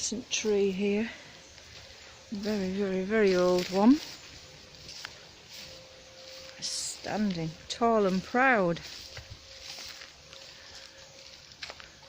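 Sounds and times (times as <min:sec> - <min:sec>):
faint steady tone: 0:00.0 - 0:12.0.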